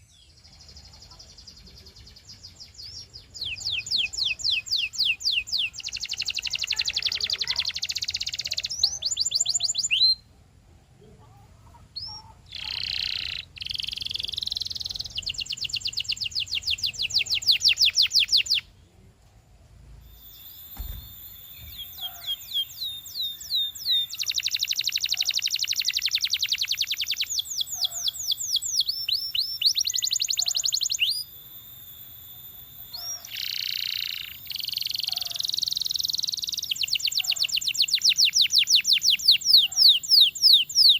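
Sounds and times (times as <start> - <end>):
canary singing trills: 0.0 - 10.3, 11.4 - 18.8, 20.0 - 40.9.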